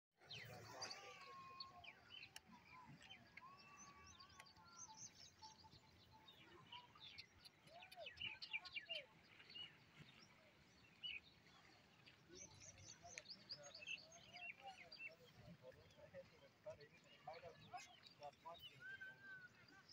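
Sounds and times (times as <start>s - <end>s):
faint birdsong chirps: 0.2s - 19.9s.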